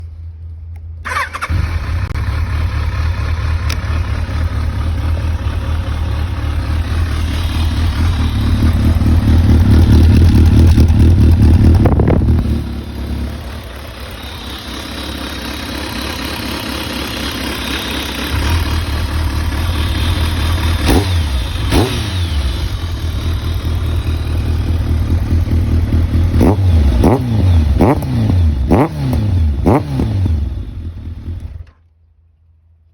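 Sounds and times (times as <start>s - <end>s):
motorcycle engine running: 1.1s - 31.7s.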